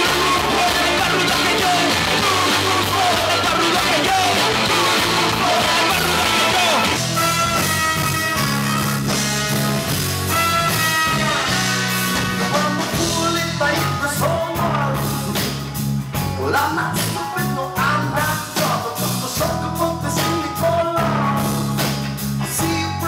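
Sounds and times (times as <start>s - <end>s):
person singing: 0.0s - 7.7s, 11.1s - 23.0s
live rock band playing: 0.0s - 23.0s.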